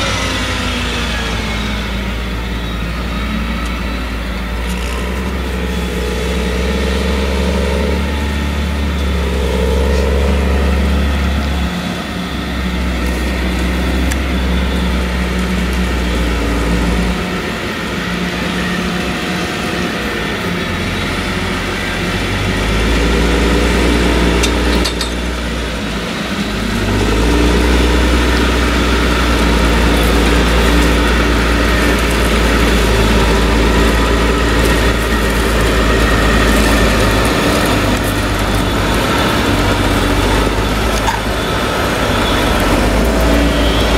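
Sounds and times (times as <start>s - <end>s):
harvester engine droning: 0.0s - 43.9s.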